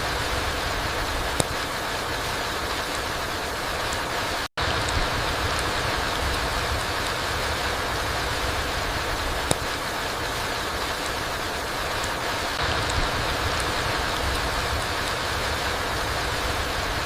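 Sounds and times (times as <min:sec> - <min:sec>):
rain falling in a forest: 0:00.0 - 0:17.0.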